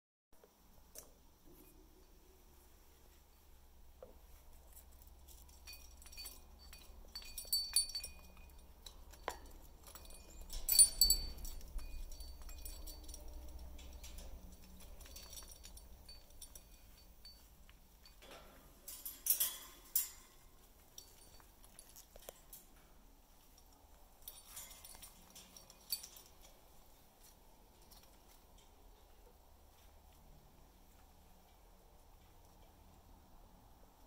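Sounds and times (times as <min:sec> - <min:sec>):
metal chain clinking: 0:04.3 - 0:33.3.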